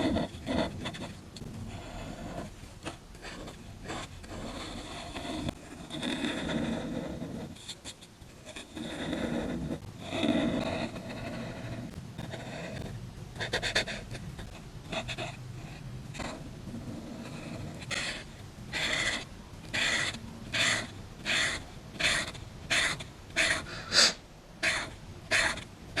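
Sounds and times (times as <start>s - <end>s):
scratchy painting strokes: 0.0s - 26.0s.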